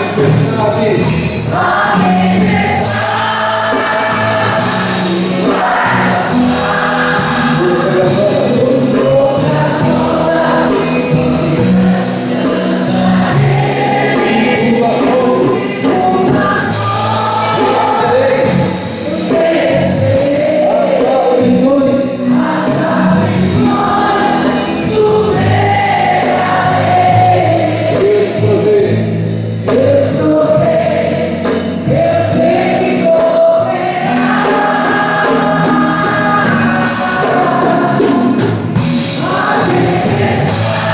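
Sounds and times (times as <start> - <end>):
group singing worship song: 0.0 - 40.9
instrumental accompaniment: 0.0 - 40.9.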